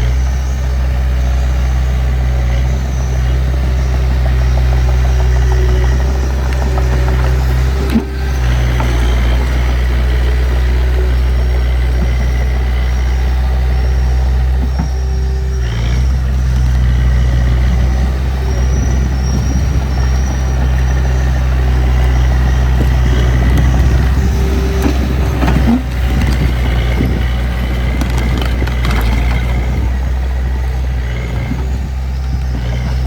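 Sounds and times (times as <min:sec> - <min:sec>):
diesel engine running: 0:00.0 - 0:33.0
metallic squeaks and clatter: 0:00.0 - 0:33.0.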